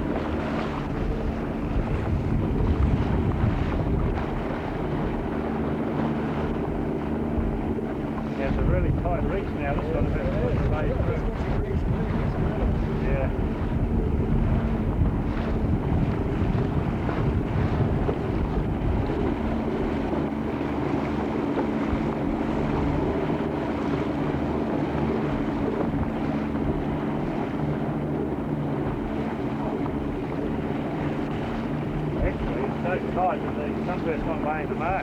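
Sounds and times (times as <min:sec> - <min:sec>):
engine hum: 0:00.0 - 0:35.0
wind buffeting microphone: 0:00.0 - 0:35.0.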